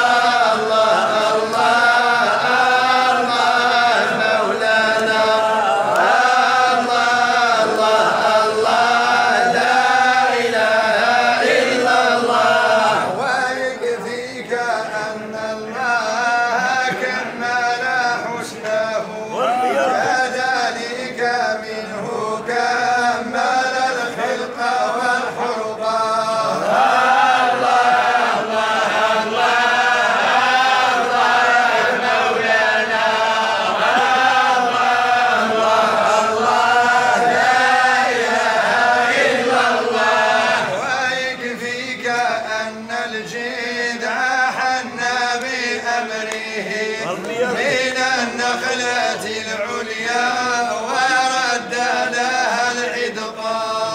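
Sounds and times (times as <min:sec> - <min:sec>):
men chanting in unison: 0:00.0 - 0:53.9.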